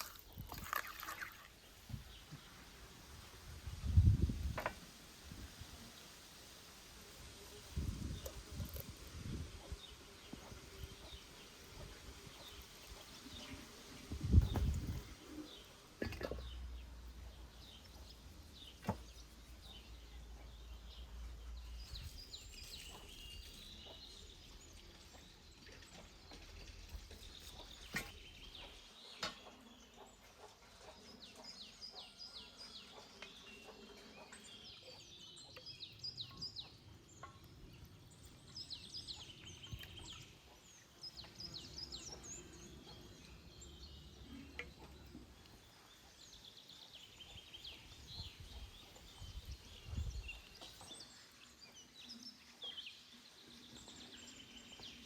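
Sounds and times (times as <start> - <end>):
small birds chirping: 7.0 - 55.0.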